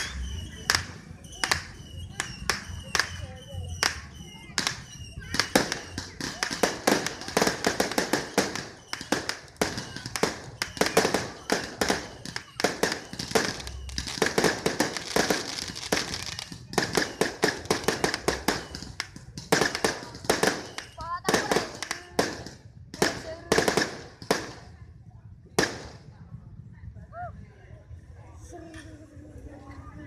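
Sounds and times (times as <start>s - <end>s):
fireworks cracking and popping: 0.0s - 24.8s, 25.5s - 26.2s.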